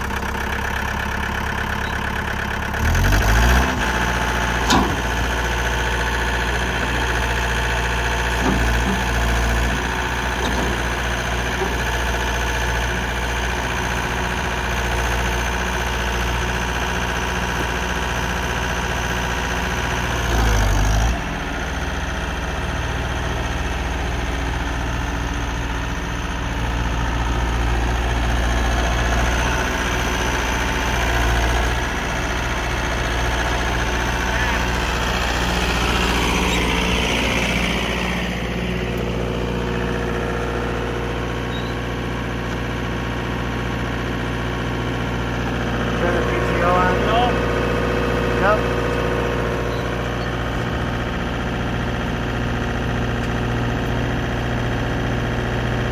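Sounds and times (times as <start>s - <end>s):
tractor diesel engine idling: 0.0s - 55.9s.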